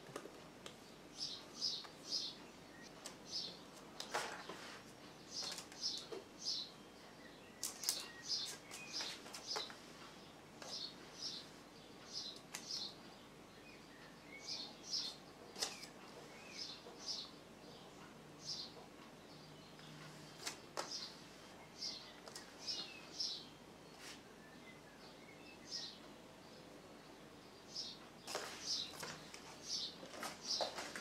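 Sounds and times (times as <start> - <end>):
small bird chirping: 0.8 - 4.2, 5.0 - 26.7.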